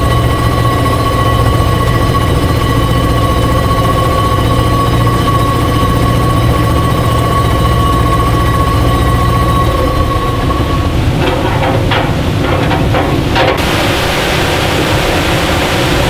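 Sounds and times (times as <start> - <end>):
machinery whine and rumble: 0.0 - 16.0
rushing noise: 0.0 - 16.0.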